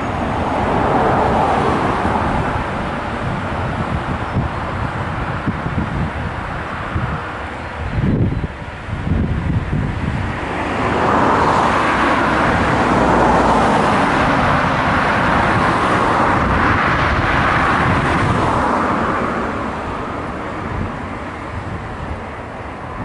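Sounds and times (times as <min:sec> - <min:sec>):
train wheels rushing on rail: 0:00.0 - 0:23.0
wind buffeting microphone: 0:00.0 - 0:23.0.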